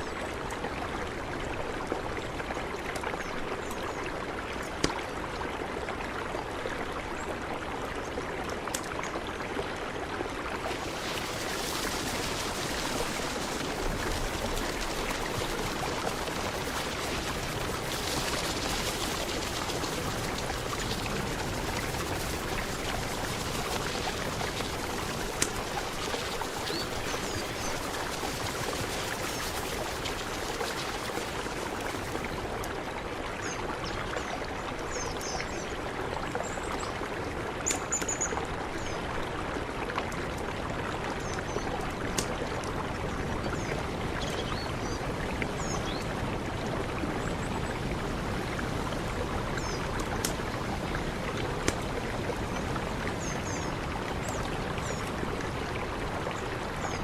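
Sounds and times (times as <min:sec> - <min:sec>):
mountain river flowing: 0:00.0 - 0:57.0.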